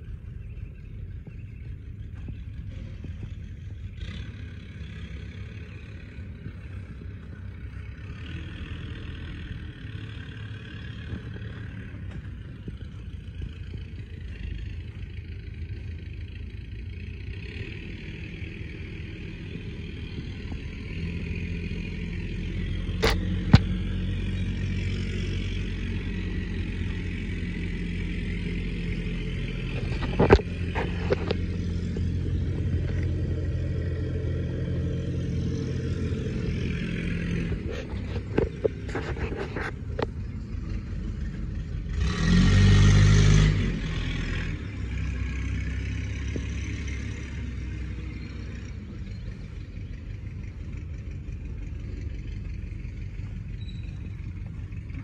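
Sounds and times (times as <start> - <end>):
diesel tractor engine idling: 0.0 - 55.0.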